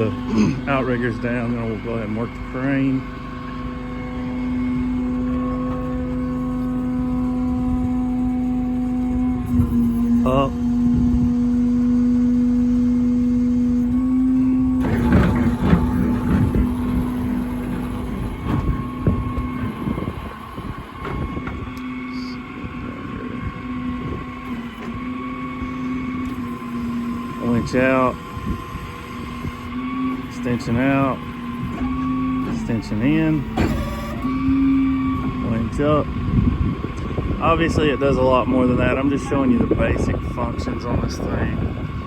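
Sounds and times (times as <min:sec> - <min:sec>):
engine rumble: 0:00.0 - 0:42.0
truck crane hydraulics humming: 0:00.0 - 0:42.0.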